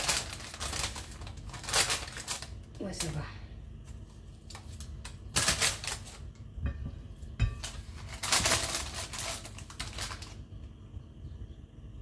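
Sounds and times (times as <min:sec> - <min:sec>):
baking paper rustling: 0:00.0 - 0:06.4, 0:07.2 - 0:10.5.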